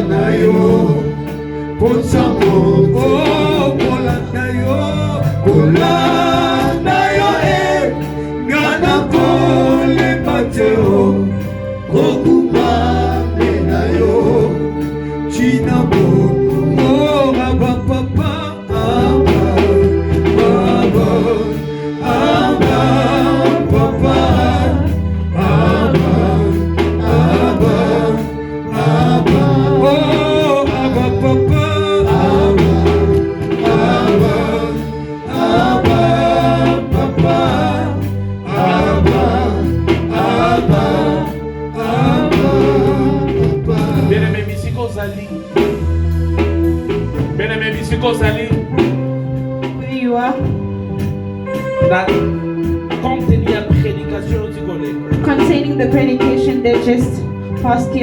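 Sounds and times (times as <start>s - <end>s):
gospel singing: 0.0s - 58.0s
steady bass line: 0.0s - 58.0s.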